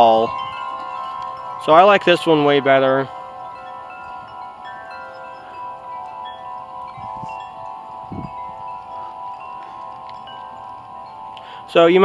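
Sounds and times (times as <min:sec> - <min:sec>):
wind chimes ringing: 0:00.0 - 0:12.0
wind rumbling on microphone: 0:00.0 - 0:12.0.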